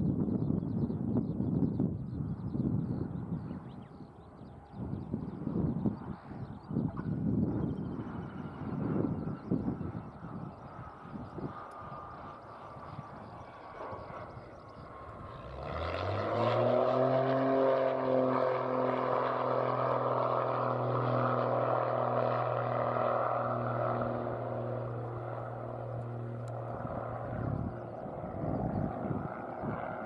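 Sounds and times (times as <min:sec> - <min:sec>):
propeller aircraft engine drone: 0:00.0 - 0:30.0.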